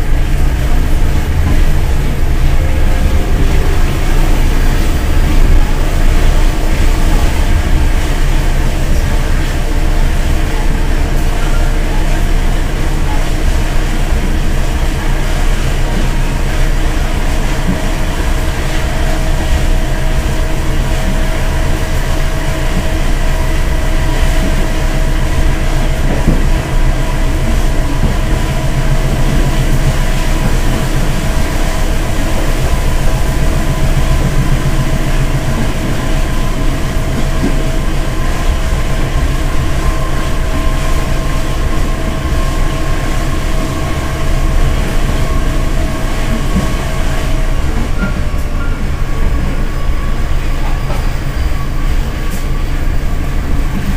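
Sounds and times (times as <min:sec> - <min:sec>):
steady whine: 0:00.0 - 0:53.9
train wheels rumbling on rails: 0:00.0 - 0:53.9.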